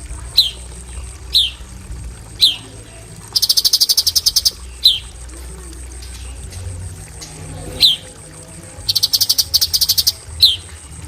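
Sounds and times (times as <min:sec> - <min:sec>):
bird calling in sharp notes: 0:00.0 - 0:11.0
high insect drone: 0:00.0 - 0:11.0.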